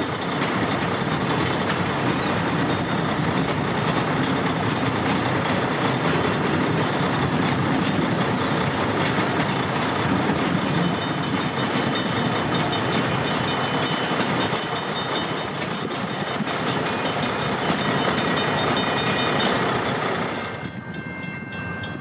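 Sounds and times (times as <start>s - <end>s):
freight train rumbling past: 0.0s - 22.0s
wheels clicking and rattling: 0.0s - 22.0s.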